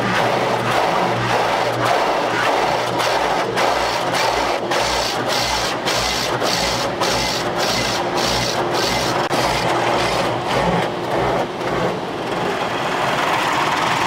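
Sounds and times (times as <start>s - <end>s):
car wash rhythmic rushing: 0.0s - 14.0s.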